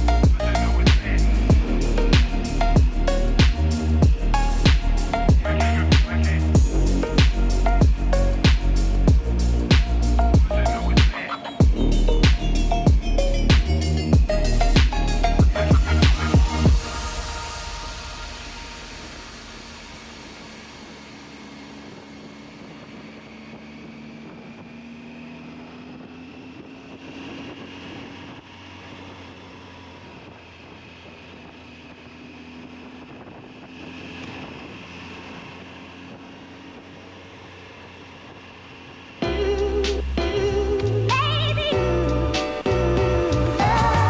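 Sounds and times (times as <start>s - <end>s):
motorcycle engine drone: 0.0s - 44.0s.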